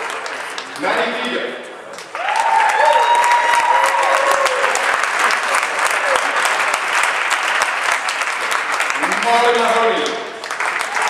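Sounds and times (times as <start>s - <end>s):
audience applauding: 0.0s - 1.0s, 1.9s - 11.0s.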